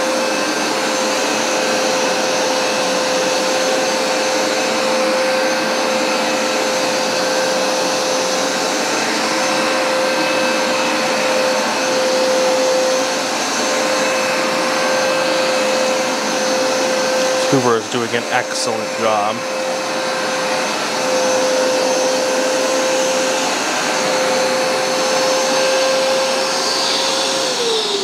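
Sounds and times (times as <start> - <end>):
carpet cleaner running: 0.0 - 28.0.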